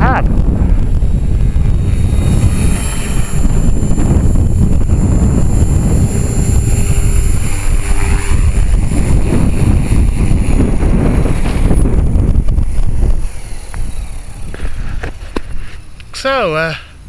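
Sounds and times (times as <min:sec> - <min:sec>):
wind buffeting microphone: 0:00.0 - 0:16.0
rc helicopter motor whine: 0:00.0 - 0:17.0.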